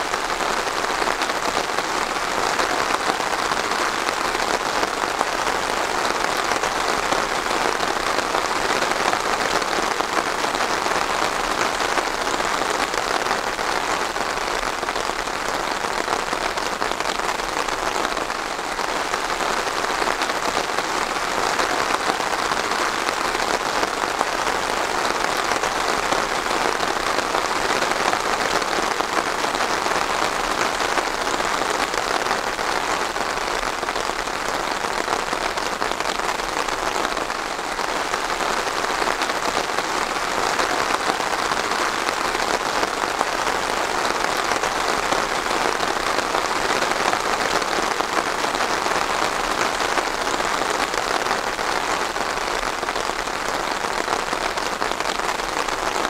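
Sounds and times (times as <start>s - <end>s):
dense rain falling: 0.0s - 56.0s.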